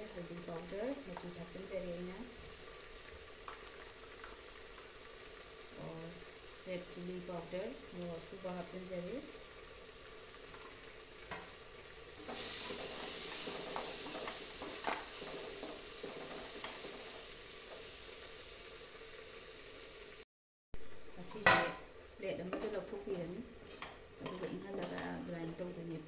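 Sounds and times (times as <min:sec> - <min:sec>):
masala sizzling in oil: 0:00.0 - 0:26.0.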